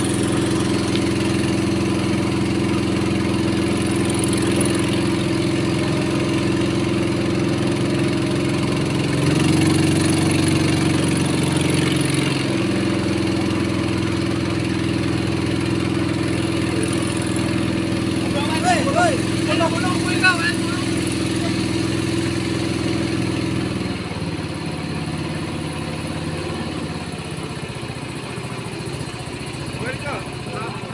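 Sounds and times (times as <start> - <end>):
motorboat engine running: 0.0 - 30.9.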